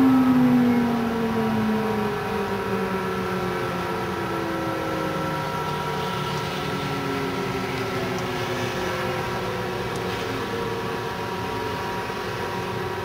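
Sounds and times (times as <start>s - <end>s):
warning sirens: 0.0s - 13.0s.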